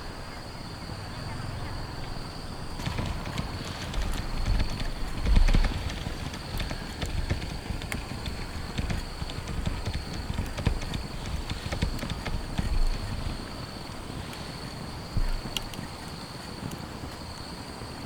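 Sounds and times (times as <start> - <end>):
raindrops tapping on tent fabric: 2.8 - 18.0.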